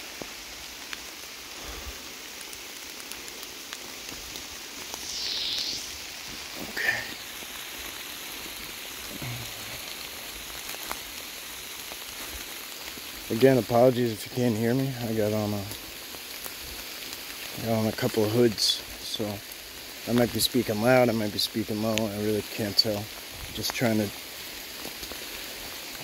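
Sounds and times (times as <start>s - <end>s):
pouring rain: 0.0s - 26.0s.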